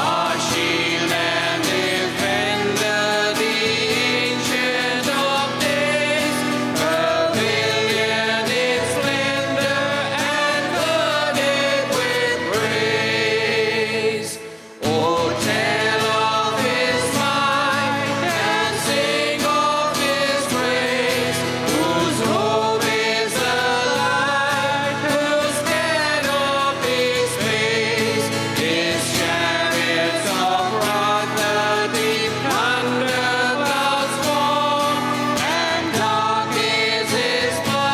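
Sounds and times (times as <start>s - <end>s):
guitar: 0.0s - 37.9s
keyboard: 0.0s - 37.9s
voices singing gospel song: 0.0s - 37.9s.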